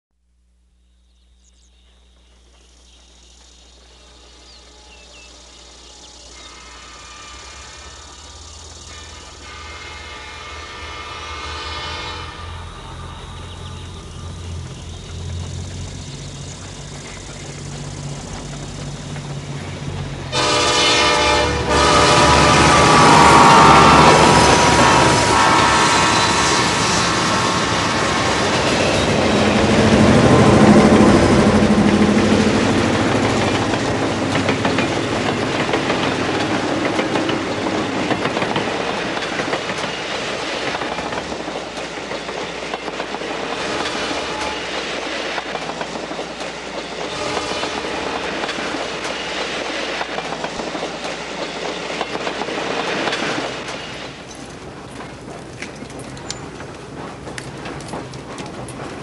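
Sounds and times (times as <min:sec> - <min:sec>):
train running on rails: 0:01.2 - 0:59.0.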